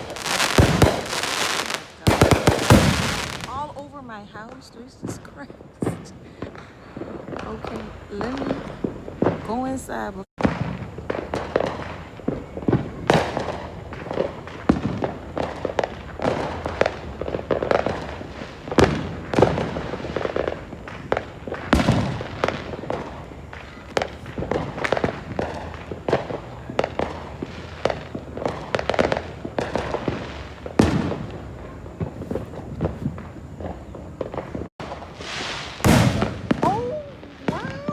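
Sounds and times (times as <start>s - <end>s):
fireworks bangs and pops: 0.0s - 37.9s
heavy fireworks booms: 0.0s - 37.9s.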